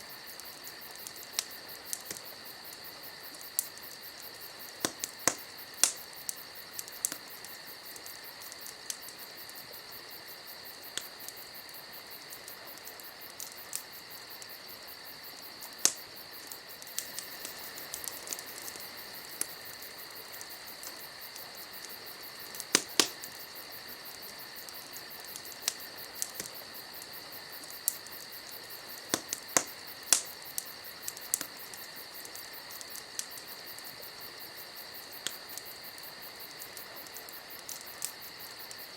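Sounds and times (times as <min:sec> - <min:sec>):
steady high hiss: 0:00.0 - 0:38.9
wood fire crackling: 0:00.0 - 0:38.9.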